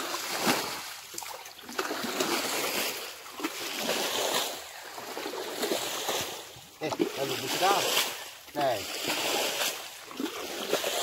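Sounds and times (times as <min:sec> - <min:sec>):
hands churning water: 0:00.0 - 0:11.0.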